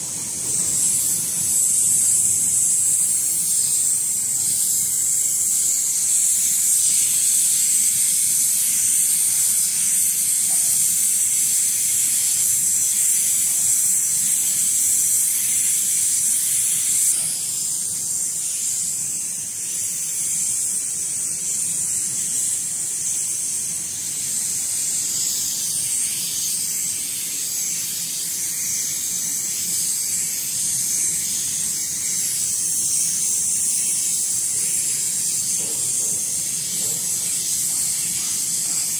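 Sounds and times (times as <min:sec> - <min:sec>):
hot air welder hissing: 0:00.0 - 0:38.9.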